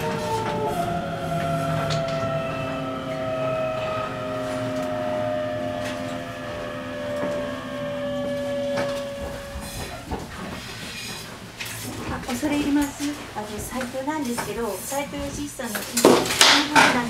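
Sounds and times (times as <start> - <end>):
electric train motors whining: 0.0 - 15.9.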